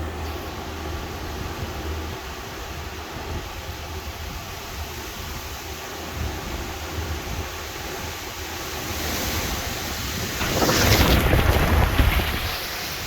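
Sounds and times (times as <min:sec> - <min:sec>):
storm wind gust: 0:01.0 - 0:13.0.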